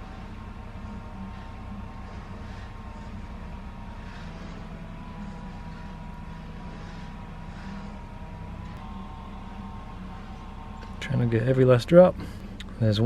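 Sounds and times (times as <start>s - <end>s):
mechanical hum with whine: 0.0s - 13.0s.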